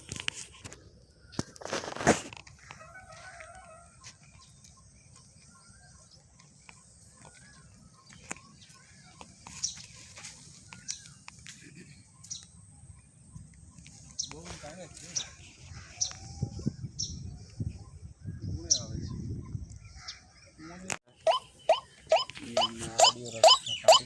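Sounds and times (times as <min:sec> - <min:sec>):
birds chirping faintly: 0:02.7 - 0:24.0.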